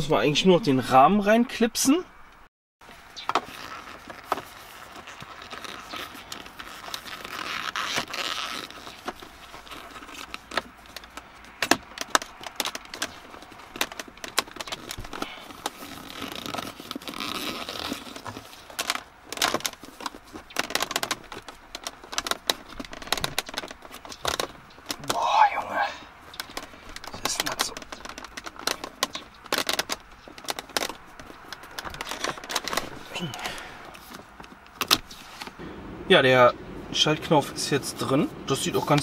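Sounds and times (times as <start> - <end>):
plastic rubbing and scraping: 2.9 - 35.6.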